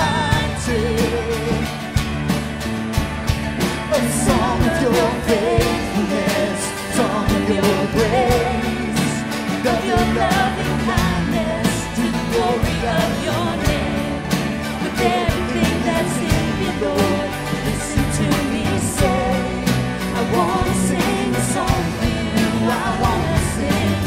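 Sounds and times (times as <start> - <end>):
drums steady beat: 0.0 - 24.0
worship band music: 0.0 - 24.0.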